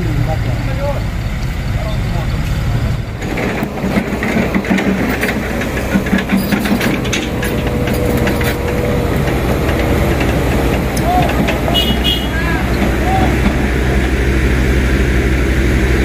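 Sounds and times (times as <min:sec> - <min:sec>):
gravel crackling under tyres: 0:00.0 - 0:16.0
truck engine running hard: 0:00.0 - 0:16.0.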